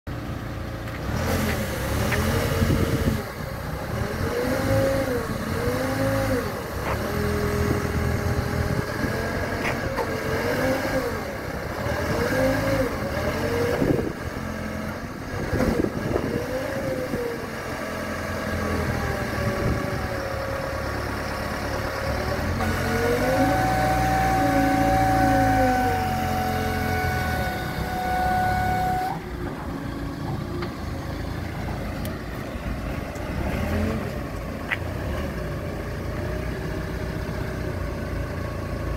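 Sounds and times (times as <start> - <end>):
diesel engine revving: 0.1 - 38.9.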